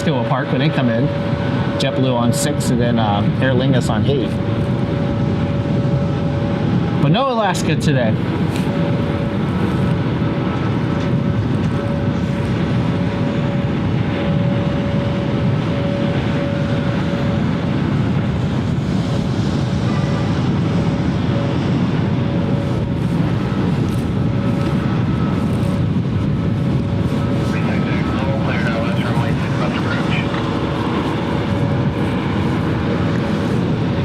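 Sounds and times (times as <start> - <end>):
jet engines rumbling: 0.0 - 34.0
thin steady whine: 0.0 - 34.0.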